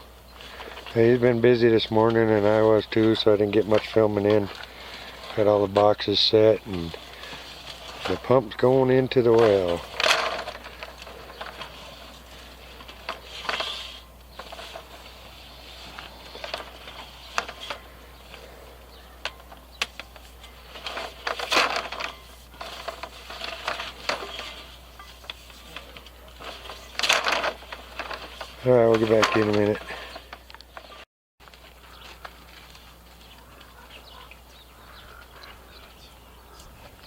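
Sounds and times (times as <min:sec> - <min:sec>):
pump and pipe clicking and rattling: 0:00.4 - 0:32.8.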